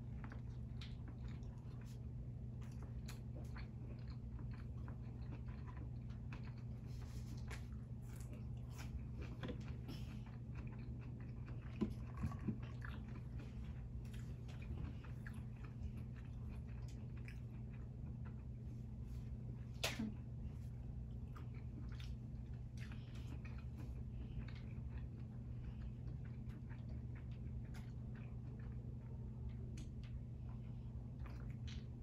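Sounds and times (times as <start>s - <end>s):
close chewing with wet crackles: 0.0s - 32.0s
steady low hum: 0.0s - 32.0s.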